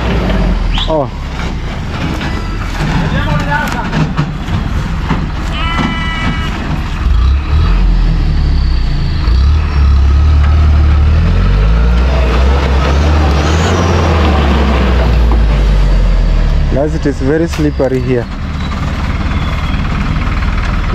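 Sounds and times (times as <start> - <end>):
diesel truck engine rumbling: 0.0 - 20.9.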